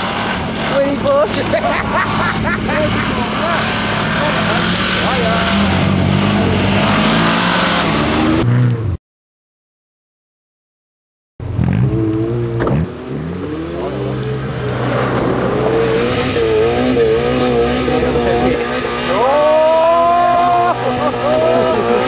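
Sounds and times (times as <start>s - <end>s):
off-road vehicle engine revving: 0.0s - 9.0s, 11.4s - 22.0s.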